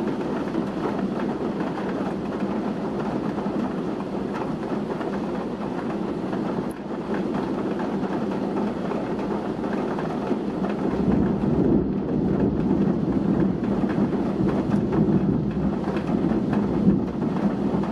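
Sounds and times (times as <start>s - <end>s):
gusting wind: 0.0s - 17.9s
heavy rain pouring: 0.0s - 17.9s.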